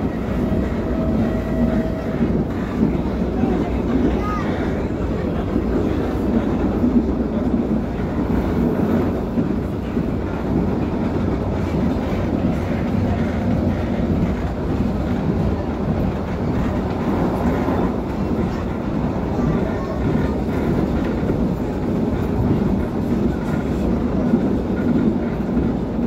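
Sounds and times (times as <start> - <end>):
train wheels on rail: 0.0 - 26.0.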